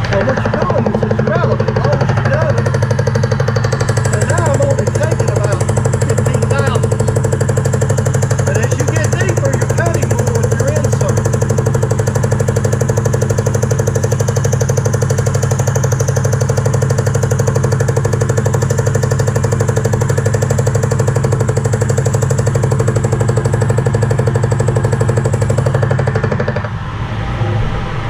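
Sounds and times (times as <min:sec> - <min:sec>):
milling machine cutting steel: 0:00.0 - 0:27.6.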